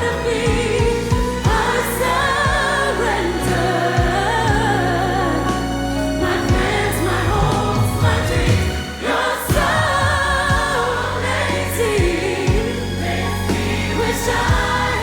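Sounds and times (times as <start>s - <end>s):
band accompaniment: 0.0s - 15.0s
gospel choir singing: 0.0s - 15.0s.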